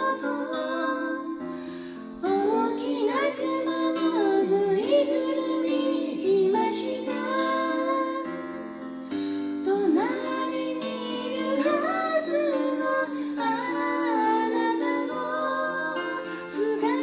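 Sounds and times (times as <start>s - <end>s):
woman singing a ballad: 0.0s - 17.0s.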